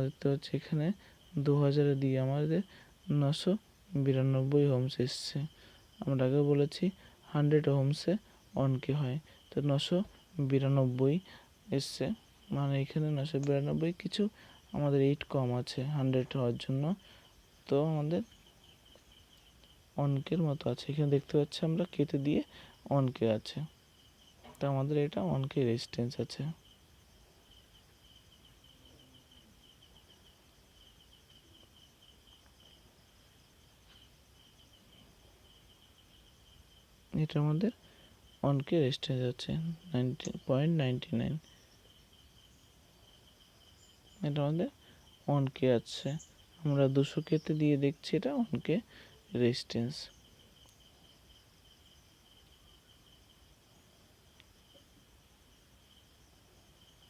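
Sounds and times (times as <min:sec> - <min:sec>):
faint high-pitched pulsing chirp: 0:00.0 - 0:57.0.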